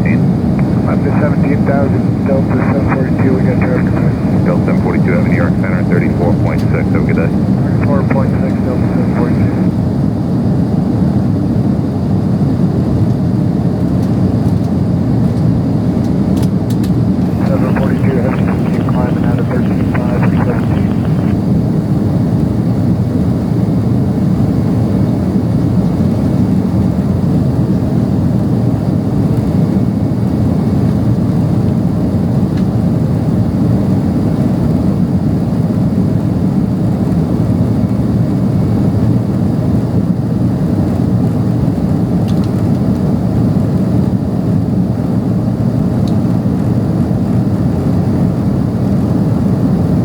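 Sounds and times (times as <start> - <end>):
airplane cabin engine noise: 0.0 - 50.0.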